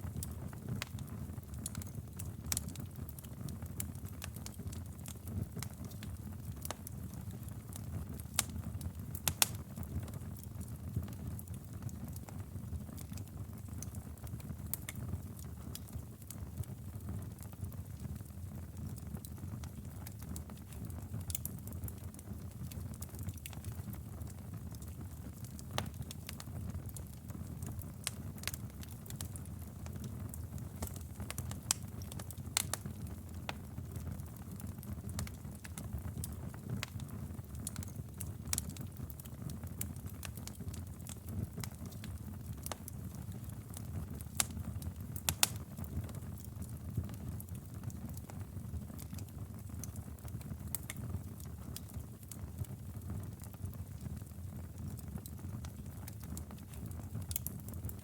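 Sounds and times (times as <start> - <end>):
low rumble of fire flames: 0.0 - 58.0
logs crackling and popping: 0.1 - 58.0.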